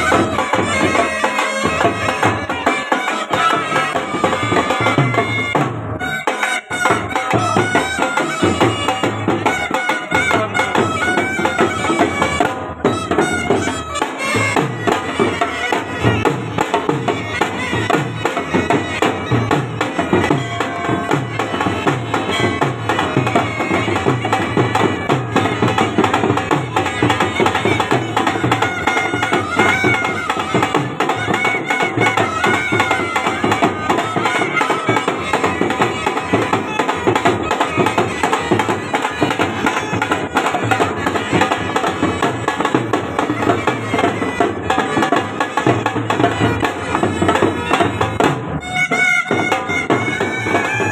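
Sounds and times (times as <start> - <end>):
fast drumming: 0.0 - 50.9
reedy wind instrument melody: 0.0 - 50.9.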